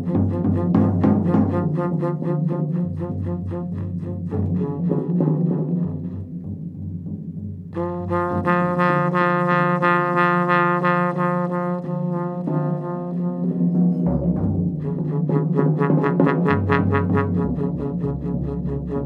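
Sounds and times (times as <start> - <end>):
trombone long note: 0.0 - 14.1, 14.7 - 19.0.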